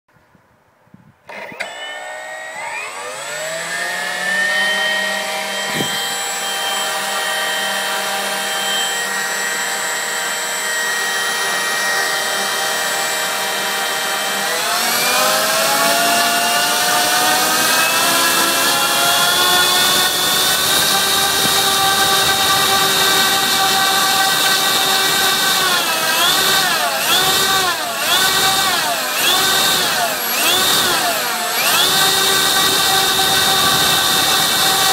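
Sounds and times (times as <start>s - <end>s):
electric motor propeller whine: 1.2s - 34.9s.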